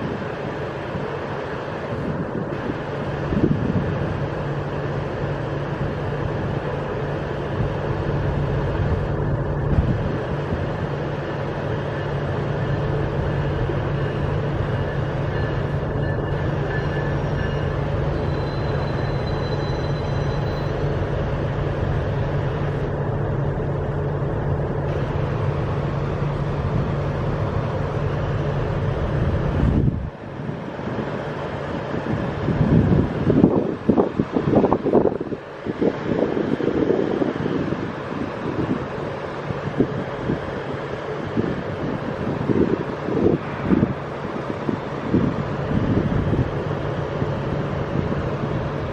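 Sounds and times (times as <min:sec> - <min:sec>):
diesel train engine rumble: 0:00.0 - 0:48.9.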